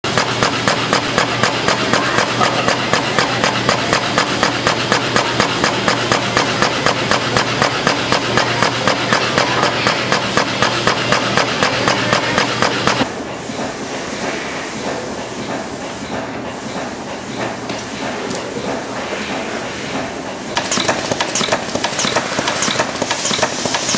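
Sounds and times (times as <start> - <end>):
machinery clacking: 0.0 - 13.7, 14.8 - 23.9.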